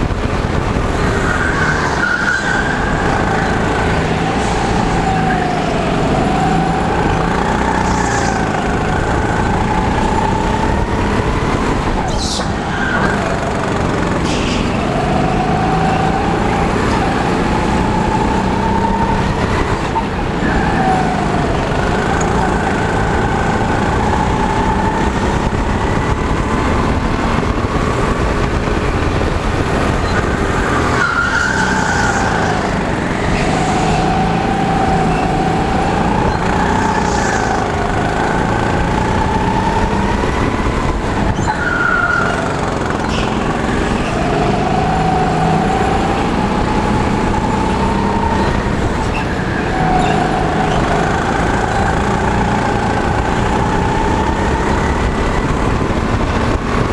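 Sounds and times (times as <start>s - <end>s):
steady rushing noise: 0.0s - 56.9s
go-kart motor revving: 0.6s - 56.9s.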